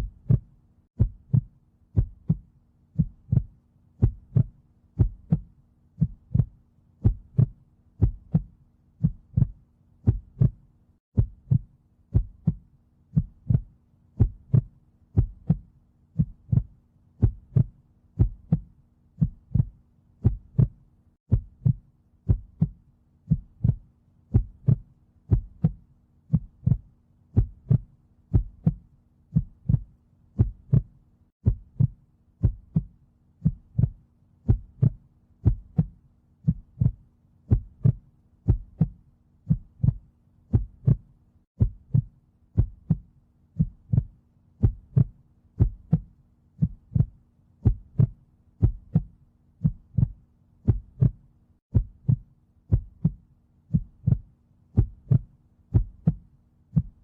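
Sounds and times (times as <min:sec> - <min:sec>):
heartbeat thumps: 0:00.0 - 0:57.0.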